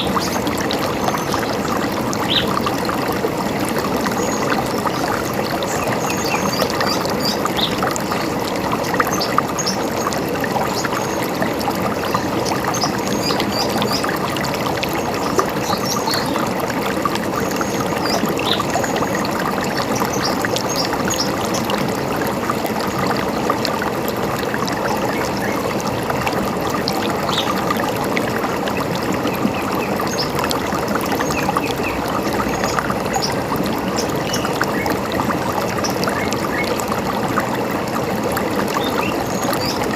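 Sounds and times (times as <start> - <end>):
river rushing and gurgling: 0.0 - 39.9.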